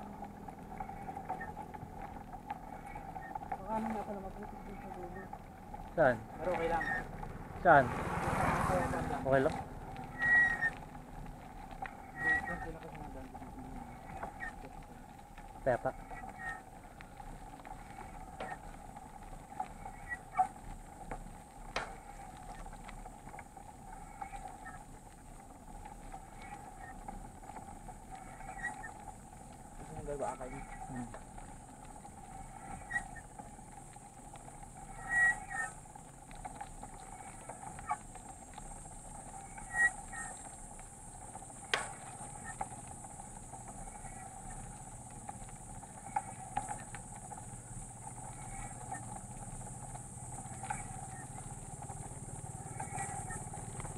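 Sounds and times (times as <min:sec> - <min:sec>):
bike clicks and rattles: 0:00.0 - 0:53.9
bike tyres rumbling on wet road: 0:00.0 - 0:53.9
wind: 0:00.0 - 0:53.9.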